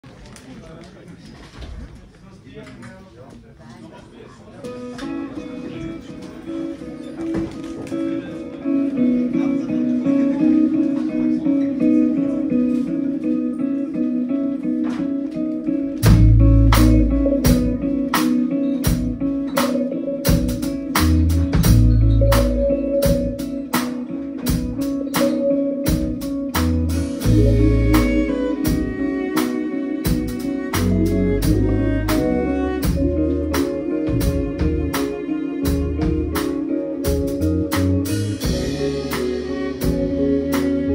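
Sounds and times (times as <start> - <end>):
drums: 4.7 - 40.9
electric guitars and violin riff: 4.7 - 40.9
electric bass notes: 8.0 - 40.9.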